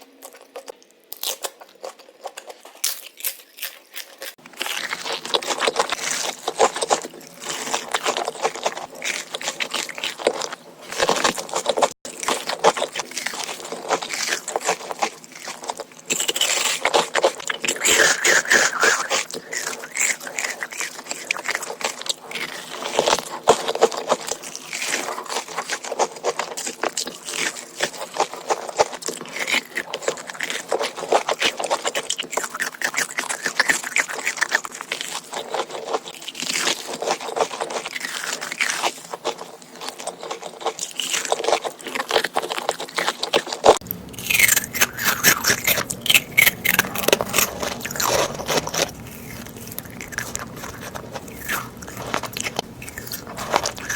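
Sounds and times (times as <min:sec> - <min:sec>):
crunching and chewing crisp food: 0:00.0 - 0:53.9
low background hum: 0:00.0 - 0:53.9.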